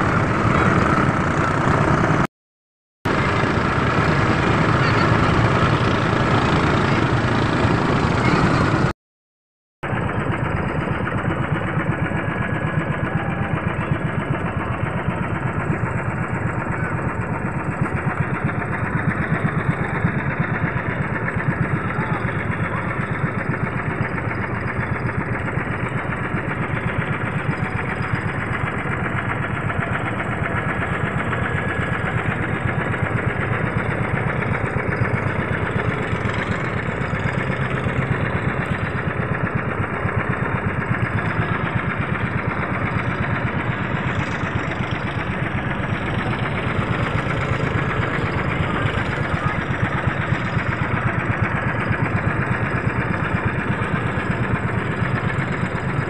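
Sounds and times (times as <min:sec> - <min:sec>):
boat engine throbbing: 0:00.0 - 0:02.3, 0:03.1 - 0:08.9, 0:09.9 - 0:56.0.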